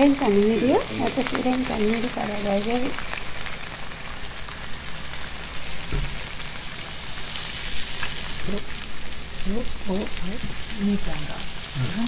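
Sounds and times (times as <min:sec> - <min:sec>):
meat and vegetables sizzling: 0:00.0 - 0:12.0.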